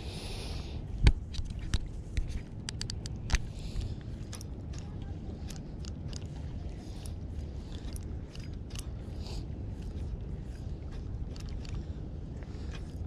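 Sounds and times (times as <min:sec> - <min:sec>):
wind rumble on microphone: 0:00.0 - 0:13.0
light clicks and crunches: 0:01.0 - 0:13.0.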